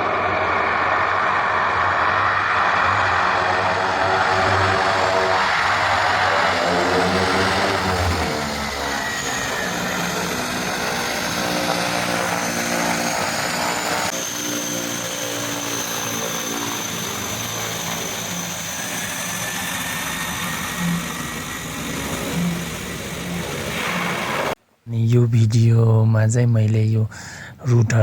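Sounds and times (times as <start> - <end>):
aircraft engines droning: 0.0 - 24.6
high engine whine: 0.0 - 24.6.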